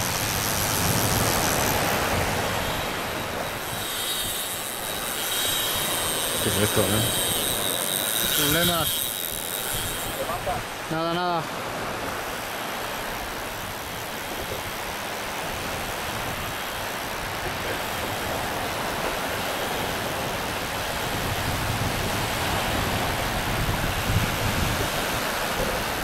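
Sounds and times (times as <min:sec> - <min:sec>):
waves washing on sandy beach: 0:00.0 - 0:26.0.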